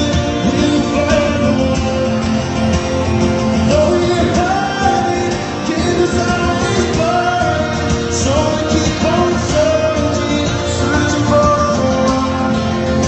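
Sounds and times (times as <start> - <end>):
guitar accompaniment: 0.0 - 13.0
person singing: 0.0 - 13.0.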